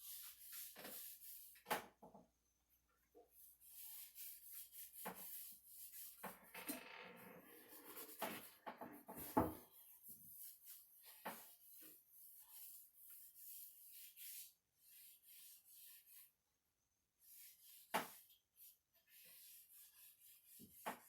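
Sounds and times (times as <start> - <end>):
rubbing strokes on wood: 0.0 - 1.6, 3.4 - 6.4, 7.6 - 16.2, 17.2 - 21.0.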